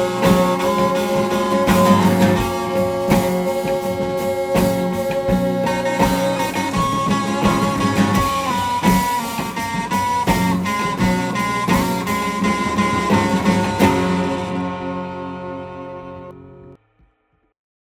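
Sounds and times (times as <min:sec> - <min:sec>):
drums: 0:00.0 - 0:15.6
guitars: 0:00.0 - 0:16.8
sustained lead melody: 0:00.0 - 0:16.8.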